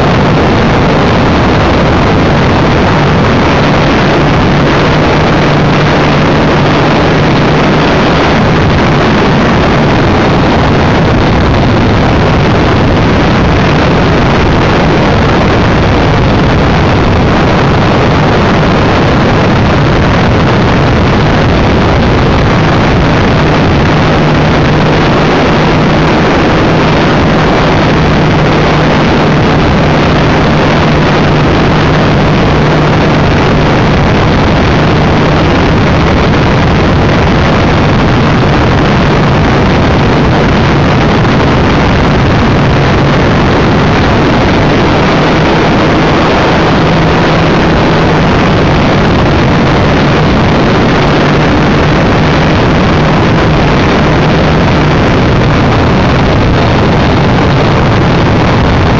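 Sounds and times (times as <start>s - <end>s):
rushing air: 0.0s - 58.9s.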